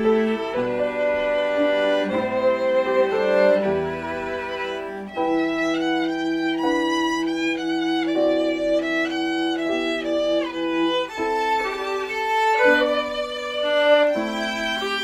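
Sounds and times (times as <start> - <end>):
piano accompaniment: 0.0 - 15.0
violins playing slow melody: 0.0 - 15.0.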